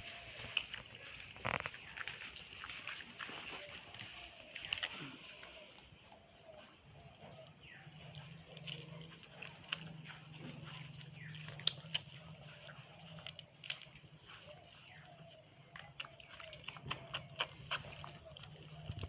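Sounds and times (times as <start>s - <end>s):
dog chewing with crunching clicks: 0.4s - 6.2s, 7.3s - 19.0s.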